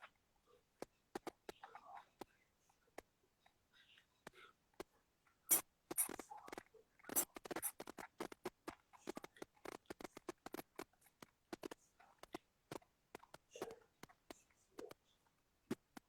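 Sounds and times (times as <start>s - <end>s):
soft clicks and taps: 0.8s - 16.0s.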